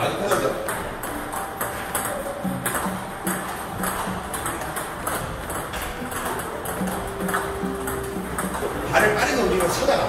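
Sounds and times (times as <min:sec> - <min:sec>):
table tennis ball ticking: 0:00.0 - 0:10.0.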